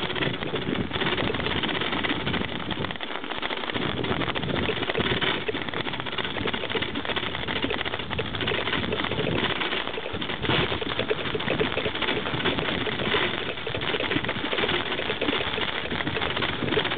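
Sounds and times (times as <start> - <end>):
bicycle riding over snow: 0.0 - 16.9.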